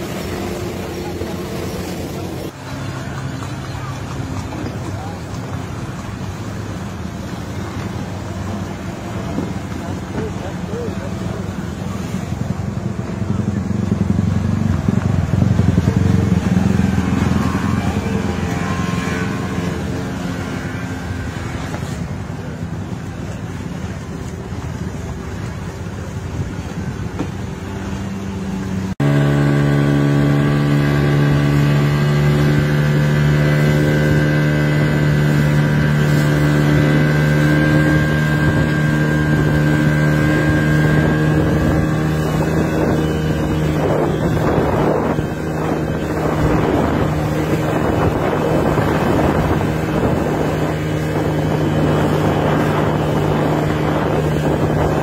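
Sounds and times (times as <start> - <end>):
motorboat engine running: 0.0 - 55.0
water rushing past: 0.0 - 55.0
wind on microphone: 0.0 - 55.0.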